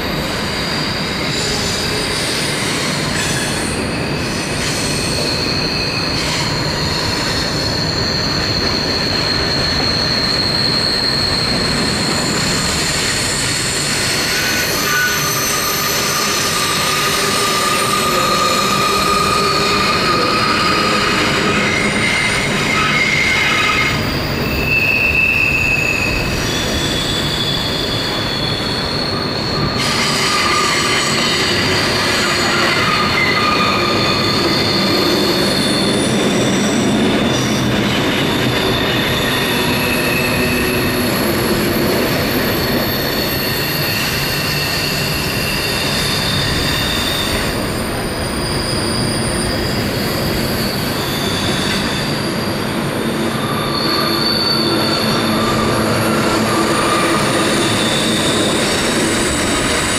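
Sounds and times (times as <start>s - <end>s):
rumble of wheels on track: 0.0s - 59.9s
train wheels squealing on rail: 0.0s - 59.9s.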